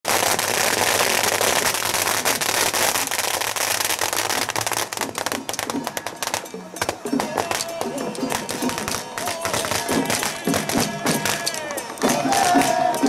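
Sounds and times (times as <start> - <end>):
firecrackers crackling and popping: 0.0 - 13.0.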